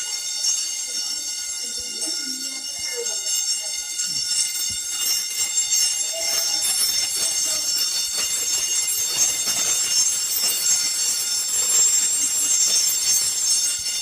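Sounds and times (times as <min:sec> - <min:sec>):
fire alarm bell ringing: 0:00.0 - 0:14.0.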